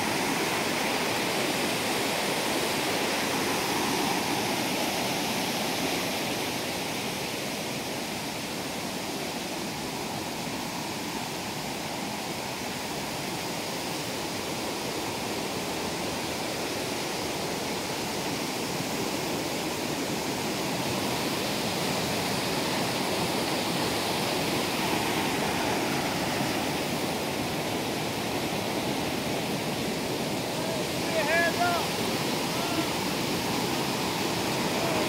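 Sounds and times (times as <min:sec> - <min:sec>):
waterfall and creek rushing: 0:00.0 - 0:35.0.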